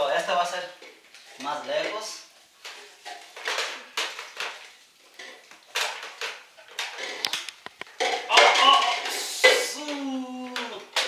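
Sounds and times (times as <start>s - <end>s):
plastic cups clattering: 0.7s - 11.0s.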